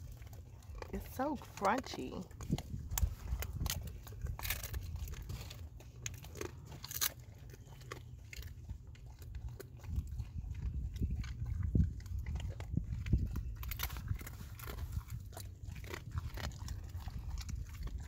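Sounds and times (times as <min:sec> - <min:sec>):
dog chewing with crunches: 0:00.0 - 0:18.0.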